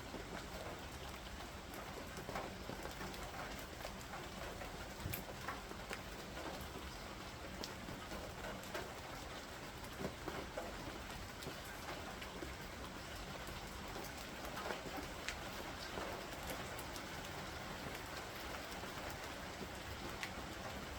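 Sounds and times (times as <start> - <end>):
raindrops ticking on surfaces: 0.0 - 20.9
steady rain falling: 0.0 - 20.9.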